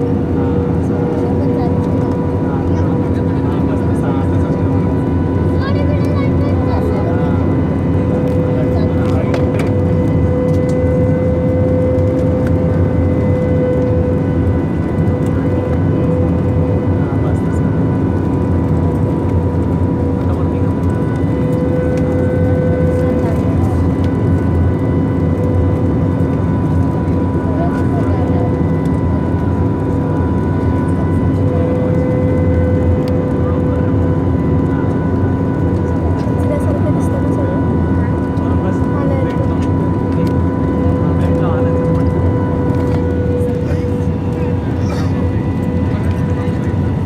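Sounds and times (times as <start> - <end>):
airplane engines droning: 0.0 - 47.0.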